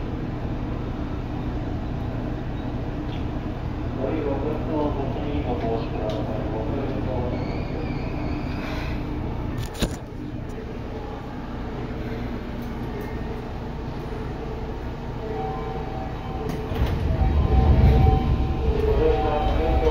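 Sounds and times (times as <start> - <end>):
train low rumble: 0.0 - 19.9.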